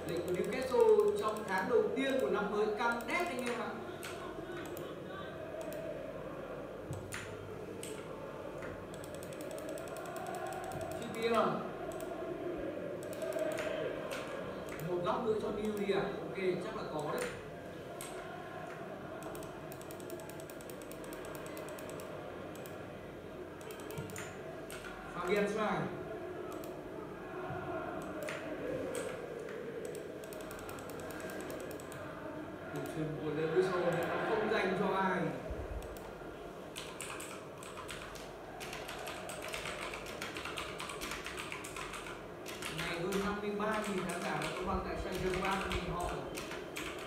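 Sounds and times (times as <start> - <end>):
keyboard typing: 0.0 - 5.9, 6.9 - 12.3, 13.0 - 22.8, 23.6 - 25.6, 26.4 - 26.8, 28.0 - 32.1, 33.8 - 34.2, 35.8 - 47.0.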